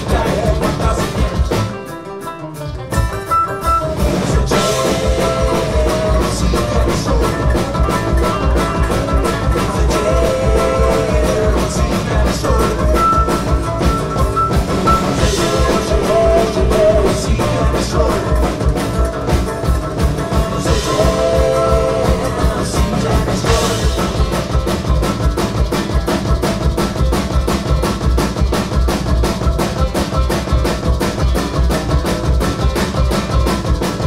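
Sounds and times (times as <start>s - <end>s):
band playing heavy metal: 0.0s - 34.0s
banjo: 0.0s - 34.0s
drum kit beat: 0.0s - 34.0s.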